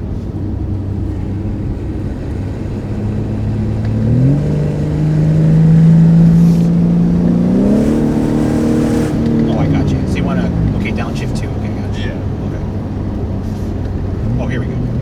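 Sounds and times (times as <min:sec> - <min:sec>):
car engine revving in cabin: 0:00.0 - 0:15.0.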